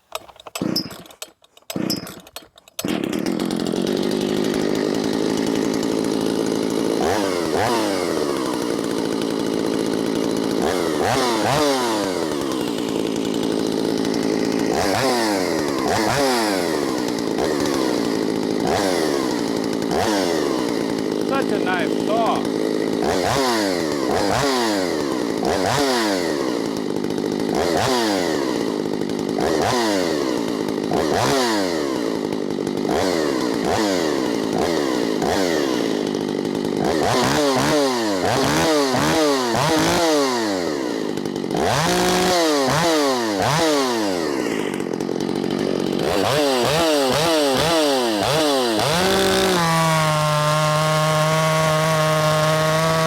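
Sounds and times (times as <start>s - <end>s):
chainsaw revving: 0.0s - 53.0s.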